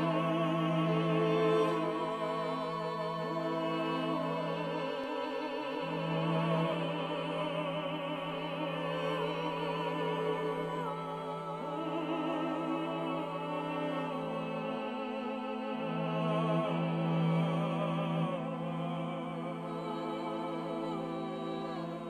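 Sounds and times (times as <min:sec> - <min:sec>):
low orchestral accompaniment: 0:00.0 - 0:22.0
operatic singing: 0:00.0 - 0:22.0.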